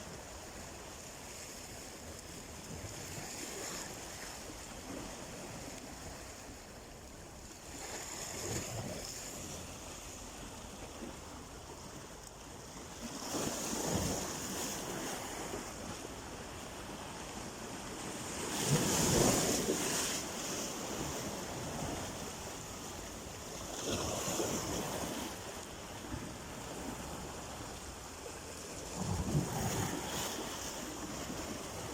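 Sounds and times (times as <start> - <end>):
sea waves washing onto shore: 0.0 - 31.9.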